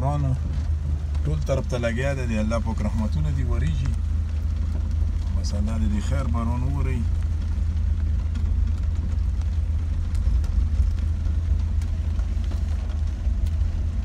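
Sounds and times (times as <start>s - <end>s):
car engine and road rumble: 0.0s - 14.0s
rain tapping on windscreen: 0.0s - 14.0s.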